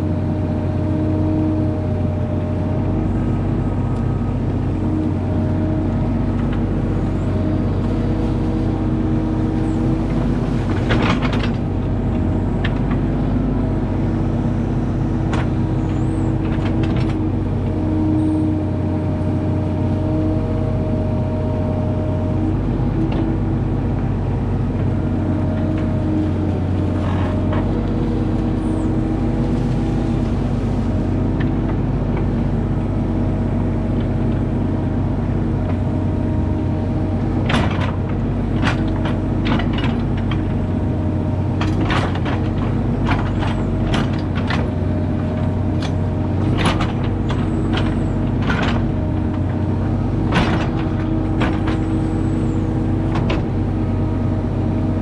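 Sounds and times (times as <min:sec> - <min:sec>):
diesel engine running: 0:00.0 - 0:55.0
hydraulics whining: 0:00.0 - 0:55.0.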